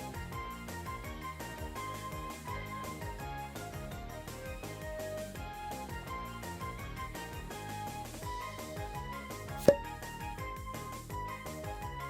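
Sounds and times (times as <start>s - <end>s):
light melodic tune with bass: 0.0s - 12.0s.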